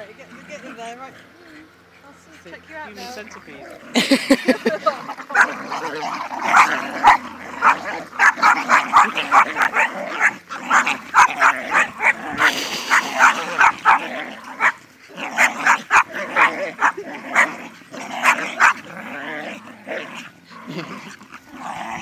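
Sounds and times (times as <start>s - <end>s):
dogs barking excitedly: 3.7s - 22.0s.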